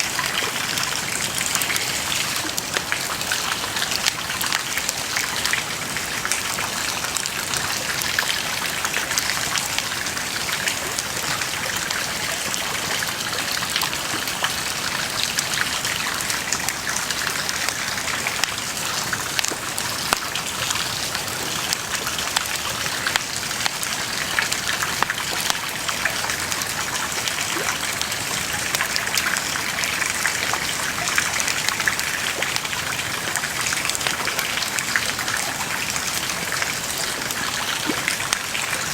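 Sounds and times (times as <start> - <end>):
bonfire crackling and hissing: 0.0 - 38.9.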